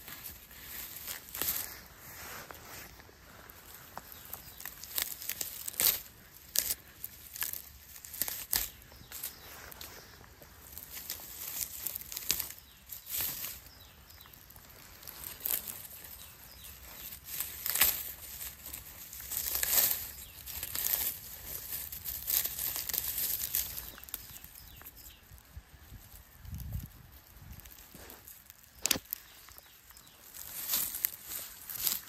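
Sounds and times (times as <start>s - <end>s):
leaves rustling and crackling: 0.0s - 32.0s
stems snapping: 0.1s - 1.8s, 3.8s - 25.1s, 27.5s - 32.0s.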